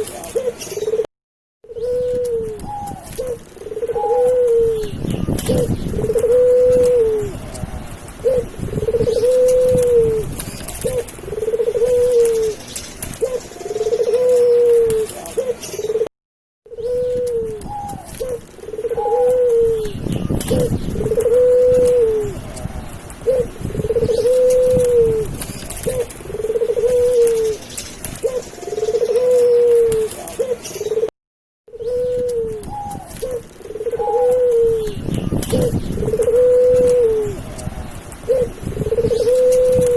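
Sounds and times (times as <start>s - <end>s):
dove cooing: 0.0s - 16.1s, 16.7s - 31.1s, 31.7s - 39.9s.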